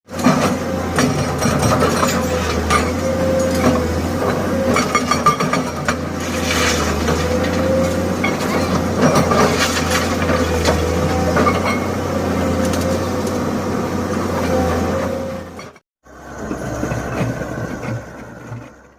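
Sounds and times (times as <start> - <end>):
diesel engine running: 0.1 - 18.9.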